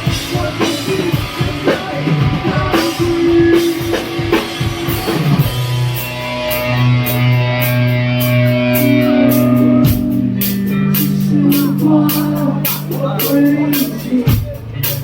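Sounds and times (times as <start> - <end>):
busy drumming: 0.0 - 15.0
held electric guitar chords: 0.0 - 15.0.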